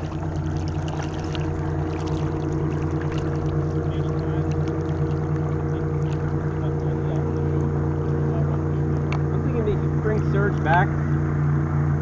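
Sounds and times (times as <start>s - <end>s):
water splashing: 0.0s - 10.8s
motorboat engine droning: 0.0s - 12.0s.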